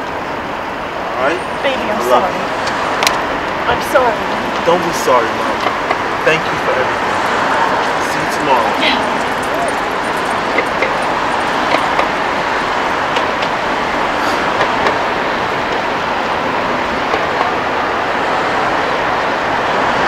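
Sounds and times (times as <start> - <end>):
street traffic rushing: 0.0 - 20.0.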